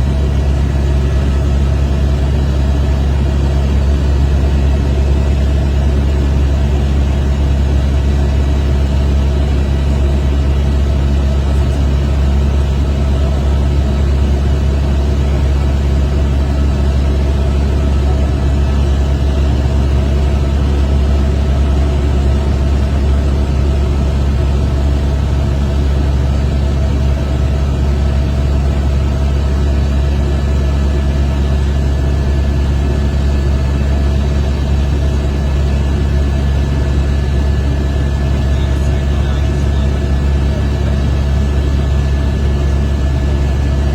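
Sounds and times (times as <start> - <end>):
helicopter rotor and engine drone: 0.0 - 43.9.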